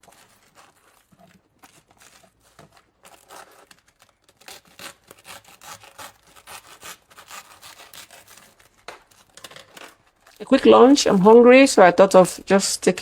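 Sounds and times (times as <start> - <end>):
paper or plastic crinkling: 0.0 - 11.6.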